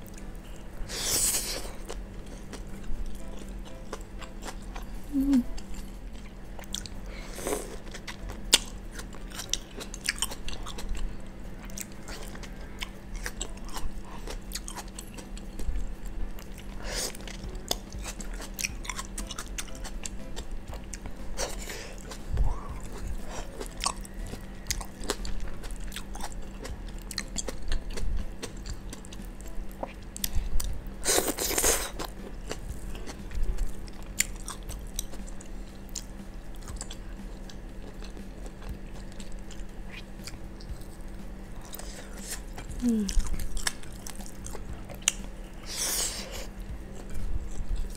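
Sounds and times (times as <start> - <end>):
person chewing and biting: 0.1 - 47.9.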